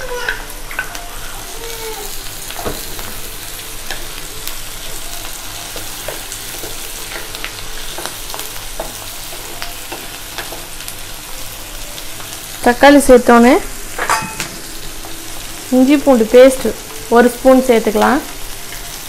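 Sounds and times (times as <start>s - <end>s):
onions sizzling in a pan: 0.0s - 19.0s.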